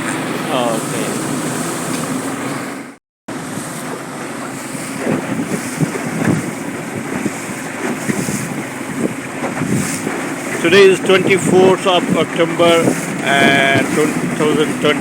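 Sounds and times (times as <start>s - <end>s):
boat engine drone: 0.0s - 15.0s
water splashing against hull: 0.0s - 15.0s
wind buffeting microphone: 0.0s - 15.0s.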